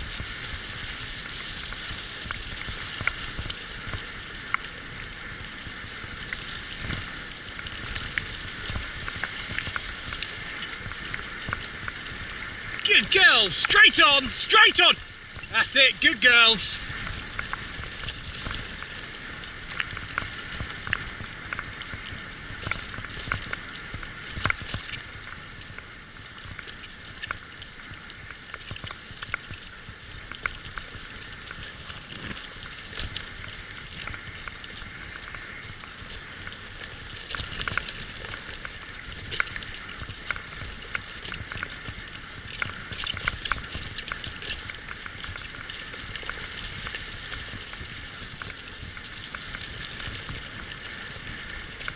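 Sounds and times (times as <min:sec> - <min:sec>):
small clicks and rattles: 0:00.0 - 0:12.7, 0:16.9 - 0:51.9
wheels crunching over gravel: 0:00.0 - 0:12.8, 0:15.0 - 0:15.5, 0:16.8 - 0:51.9.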